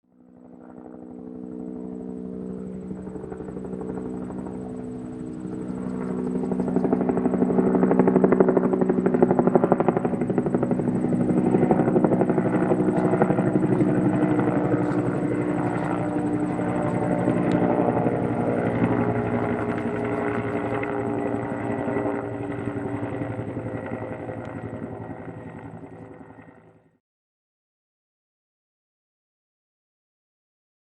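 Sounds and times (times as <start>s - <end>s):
helicopter flying by: 0.1s - 27.0s.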